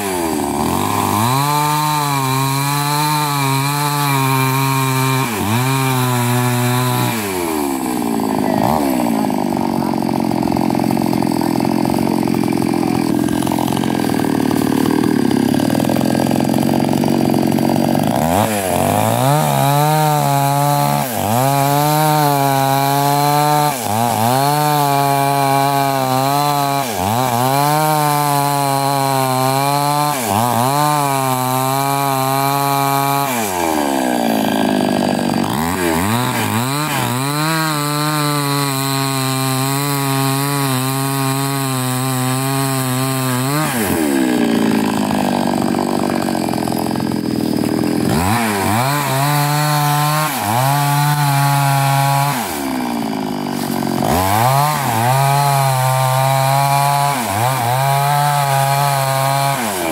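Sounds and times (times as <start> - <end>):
chainsaw cutting wood: 0.0 - 59.9
chainsaw revving: 0.0 - 59.9.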